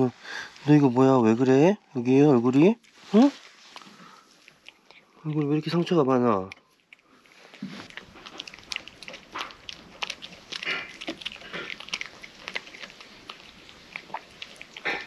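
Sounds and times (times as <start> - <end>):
cat crunching and chewing food: 2.5 - 15.0.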